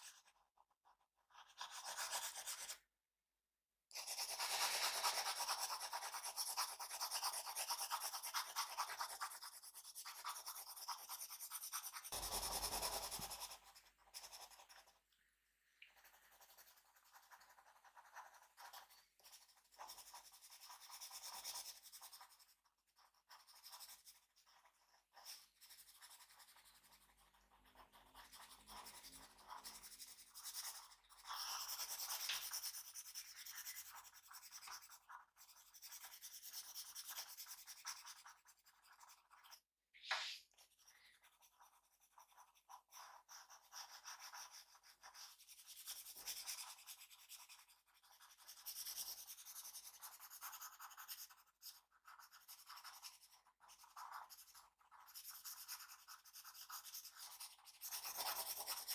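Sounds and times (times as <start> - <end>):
drawing tool scratching paper: 0.0 - 2.9, 3.9 - 15.0, 15.9 - 58.9.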